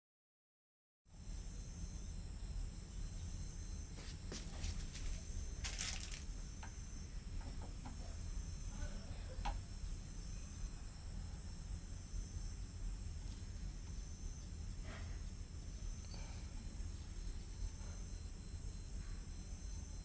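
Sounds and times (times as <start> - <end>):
insects chorus: 1.2 - 20.0.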